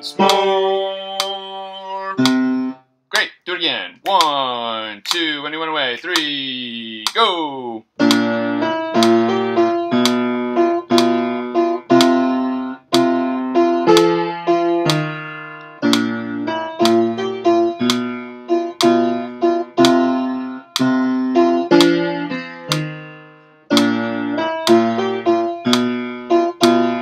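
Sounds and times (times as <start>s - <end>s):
upright piano chords: 0.0s - 2.8s, 8.0s - 27.0s.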